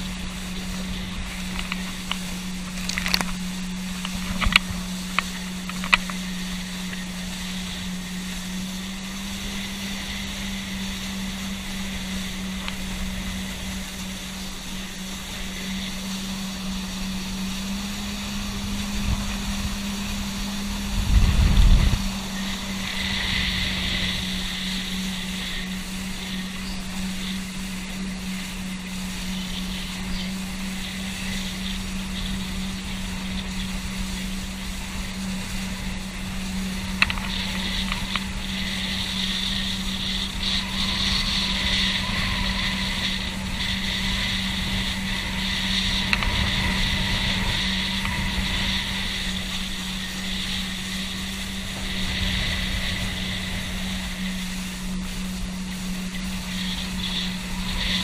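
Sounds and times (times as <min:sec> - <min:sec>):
boat engine droning: 0:00.0 - 0:58.0
water hissing past hull: 0:00.0 - 0:58.0.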